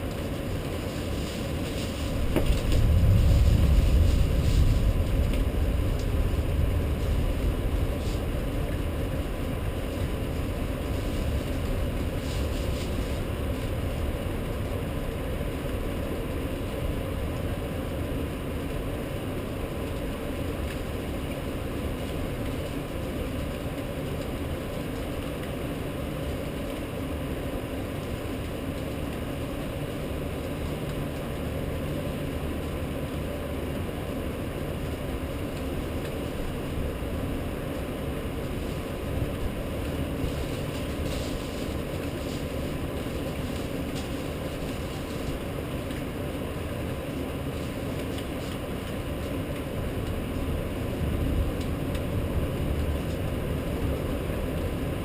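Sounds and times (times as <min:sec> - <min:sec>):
low city rumble: 0:00.0 - 0:55.0
rain storm: 0:00.0 - 0:55.0.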